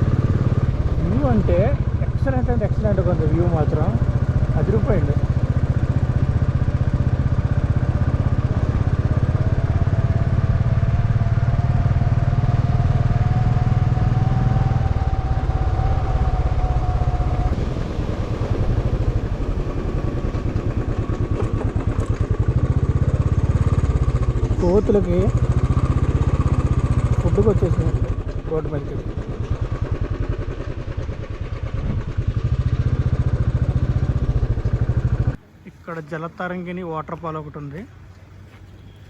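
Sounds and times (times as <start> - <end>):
motorcycle engine running: 0.0 - 35.4.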